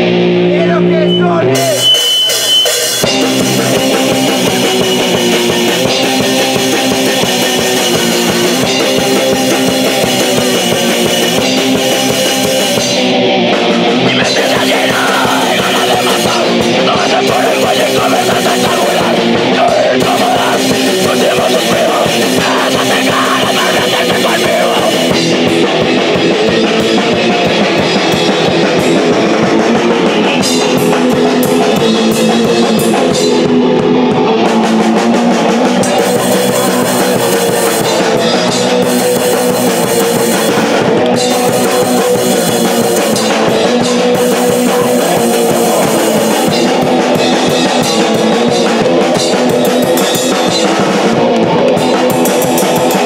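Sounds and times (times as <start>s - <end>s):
electric guitar: 0.0s - 53.0s
drum kit with crashing cymbals: 1.2s - 53.0s.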